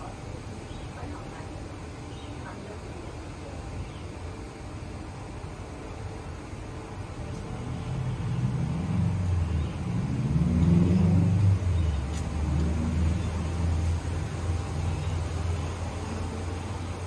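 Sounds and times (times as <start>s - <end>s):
train rumbling through station: 0.0s - 17.0s.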